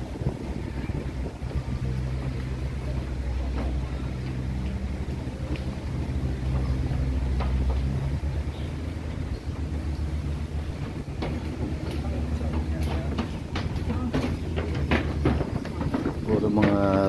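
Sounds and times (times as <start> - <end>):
low mechanical rumble and hum: 0.0 - 17.0.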